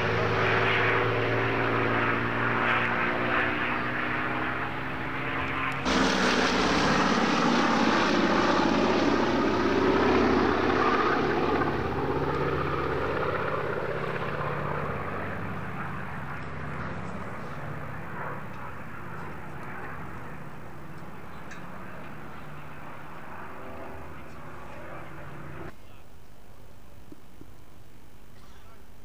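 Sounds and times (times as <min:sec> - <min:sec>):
bomber radial engines droning: 0:00.0 - 0:26.1.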